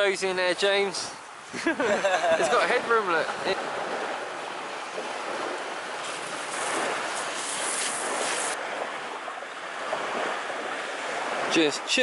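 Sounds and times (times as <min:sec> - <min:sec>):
surf on the shore: 0:00.0 - 0:12.0
wind: 0:00.0 - 0:12.0.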